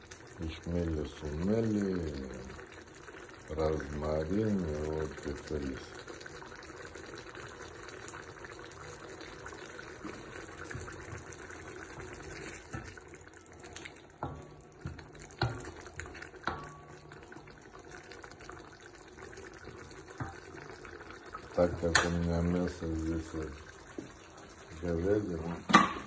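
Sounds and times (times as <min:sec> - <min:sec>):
liquid bubbling in pot: 0:00.0 - 0:26.0.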